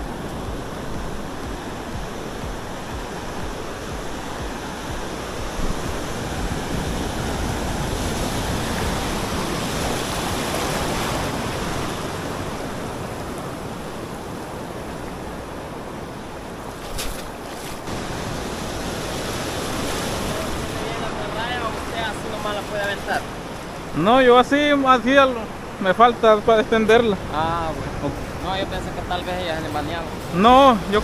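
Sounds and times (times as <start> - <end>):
waves breaking on beach: 0.0 - 31.0.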